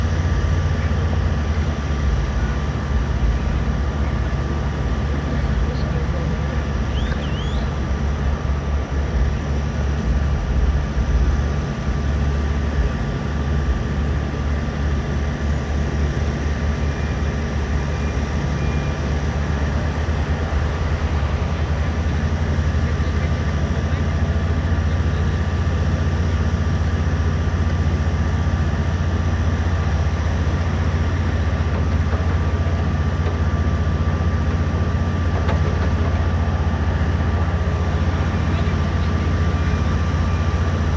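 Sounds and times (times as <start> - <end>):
excavator diesel engines droning: 0.0 - 40.9
thin steady whine: 0.0 - 40.9.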